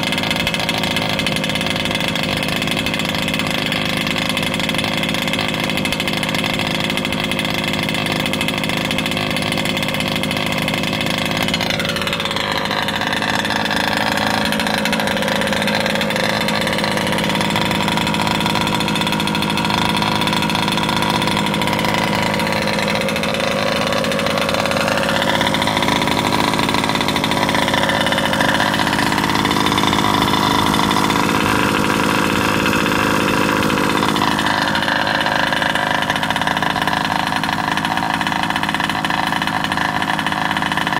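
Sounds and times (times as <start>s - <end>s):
two-stroke engine idling rough: 0.0s - 40.9s.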